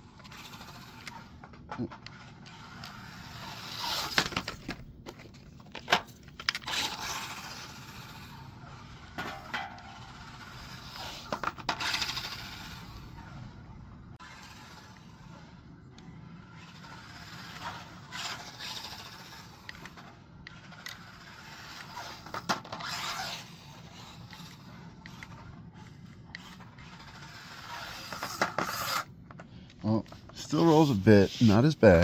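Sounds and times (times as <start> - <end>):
toy truck tyres scraping ground: 0.0 - 32.0.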